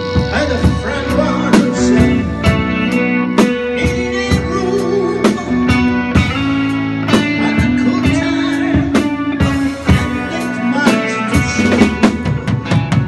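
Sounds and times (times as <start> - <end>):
drum kit: 0.0 - 13.0
electric bass: 0.0 - 13.0
electric guitar: 0.0 - 13.0.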